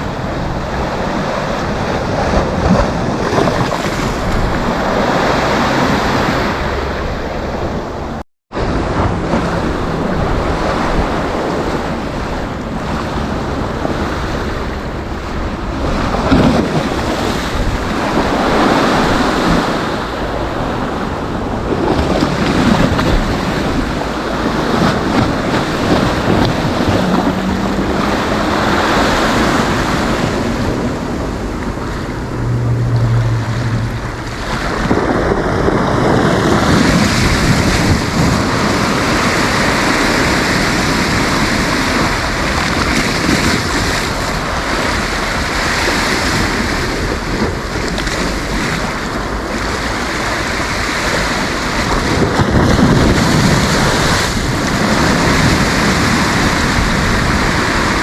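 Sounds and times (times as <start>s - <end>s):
sea waves breaking: 0.0s - 58.0s
wind buffeting microphone: 0.0s - 58.0s.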